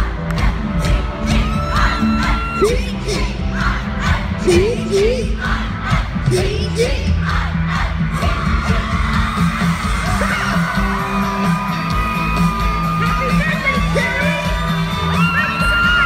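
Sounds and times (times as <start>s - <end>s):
fans whooping and singing along: 0.0s - 16.0s
loud pop music with heavy bass: 0.0s - 16.0s.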